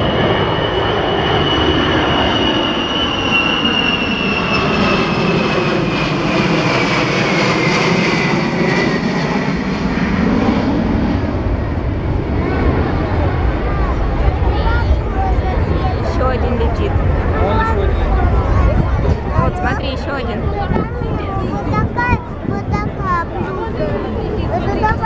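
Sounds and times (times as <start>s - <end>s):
jet passing low overhead: 0.0s - 25.0s.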